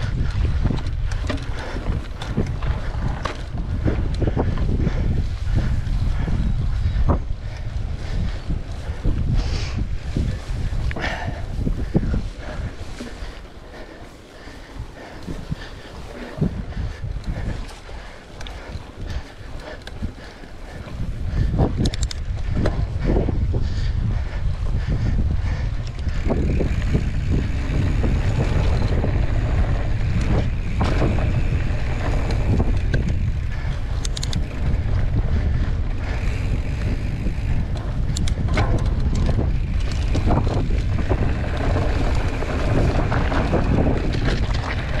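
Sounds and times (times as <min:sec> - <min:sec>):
bike clicks and knocks: 0:00.0 - 0:45.0
low riding rumble: 0:00.0 - 0:45.0
wind buffeting microphone: 0:00.0 - 0:45.0.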